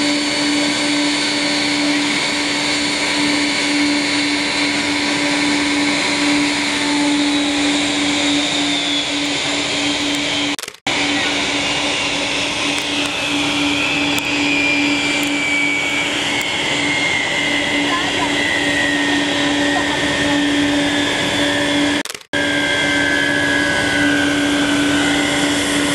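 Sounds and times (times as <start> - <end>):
high engine whine: 0.0 - 25.9
turboprop aircraft droning: 0.0 - 25.9.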